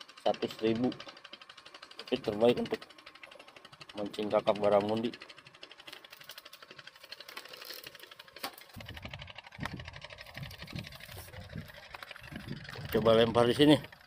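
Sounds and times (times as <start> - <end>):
fishing reel ticking: 0.0 - 14.0.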